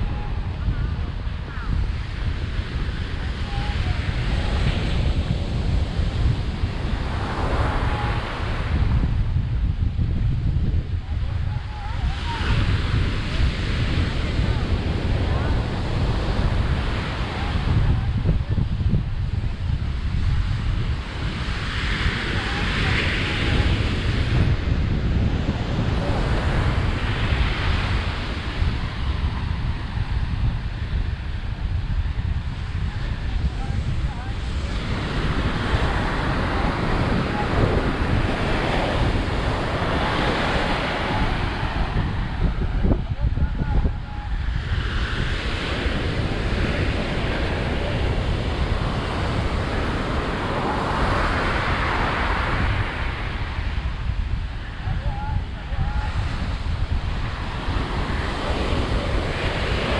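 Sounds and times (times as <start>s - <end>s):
surf washing on a beach: 0.0s - 59.9s
wind rumbling on microphone: 0.0s - 59.9s.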